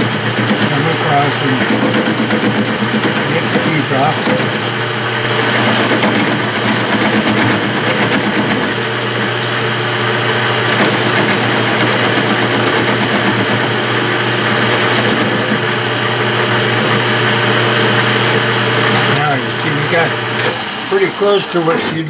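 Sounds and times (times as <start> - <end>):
lathe motor hum: 0.0 - 22.0.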